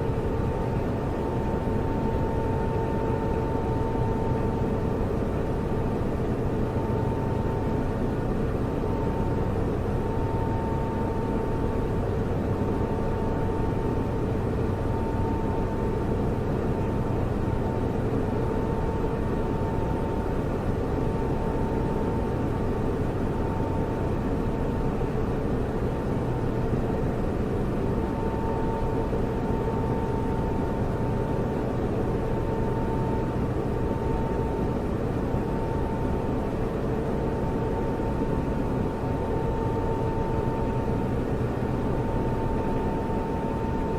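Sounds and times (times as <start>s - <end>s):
cooling fan air rush: 0.0s - 43.9s
whining hum: 0.0s - 43.9s.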